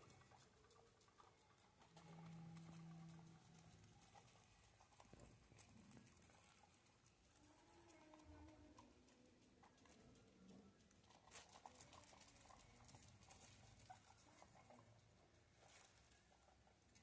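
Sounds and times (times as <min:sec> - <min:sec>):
faint low hum: 0:00.0 - 0:17.0
guinea pigs nibbling: 0:00.0 - 0:17.0.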